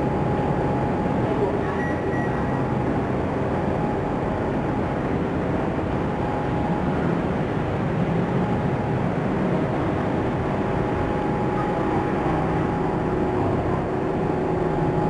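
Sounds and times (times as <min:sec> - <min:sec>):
faint steady hum: 0:00.0 - 0:15.0
low background rumble: 0:00.0 - 0:15.0.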